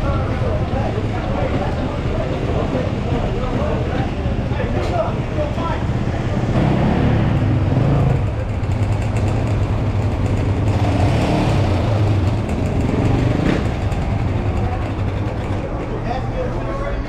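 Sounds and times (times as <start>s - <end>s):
motorcycle engine running: 0.0s - 16.1s.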